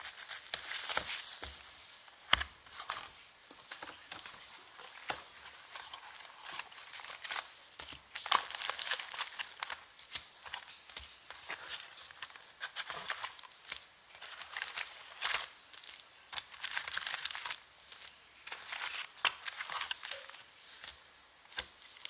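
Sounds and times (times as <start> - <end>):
plastic wrapping crinkling and tearing: 0.0 - 22.0.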